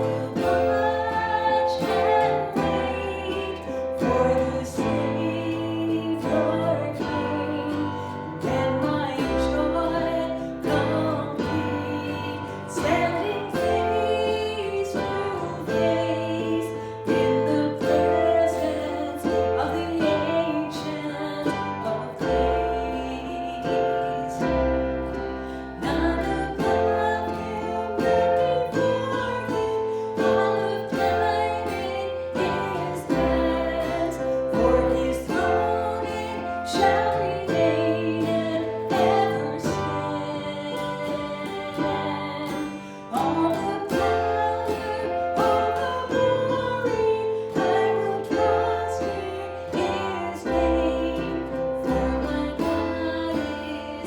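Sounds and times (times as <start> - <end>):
person singing: 0.0 - 54.0
strummed guitar: 0.0 - 54.0.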